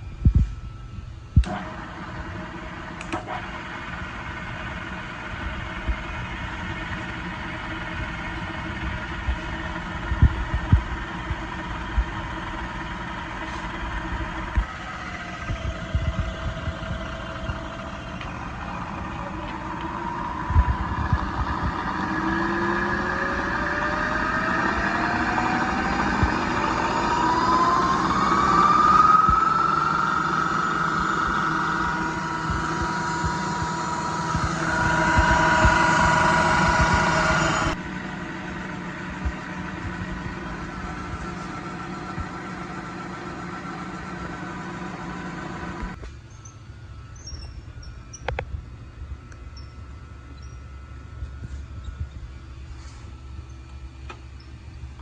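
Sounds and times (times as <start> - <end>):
milling machine humming: 0.0 - 55.0
spindle whine rising in pitch: 0.0 - 55.0.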